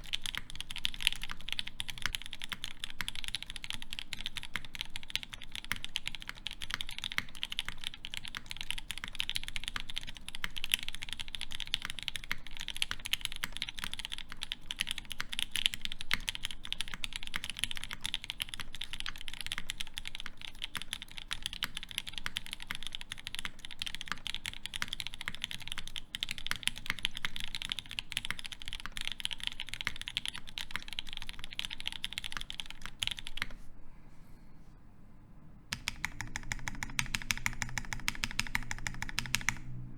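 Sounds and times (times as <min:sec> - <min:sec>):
fast typing on mechanical keyboard: 0:00.0 - 0:33.6, 0:35.7 - 0:39.9.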